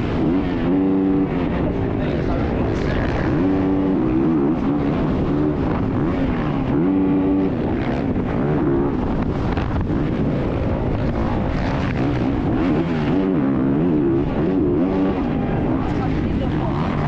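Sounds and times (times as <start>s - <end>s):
dirt bike engine revving: 0.0s - 17.0s
wind noise on microphone: 0.0s - 17.0s.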